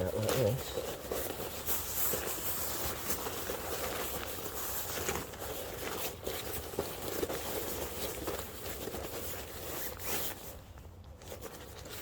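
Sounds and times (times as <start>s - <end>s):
sleeping mat fabric rustling: 0.0s - 12.0s.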